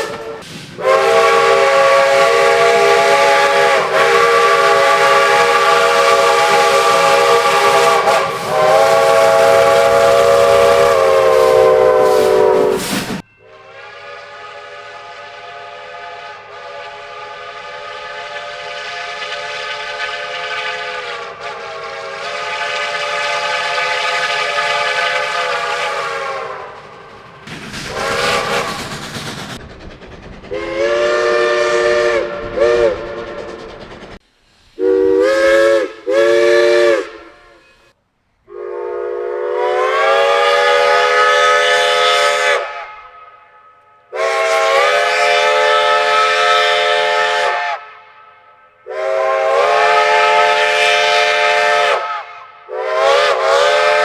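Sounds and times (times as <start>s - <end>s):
steam locomotive chime whistle: 0.0s - 29.5s, 30.5s - 33.6s, 34.8s - 54.0s
steam hissing: 0.0s - 43.0s, 44.1s - 54.0s.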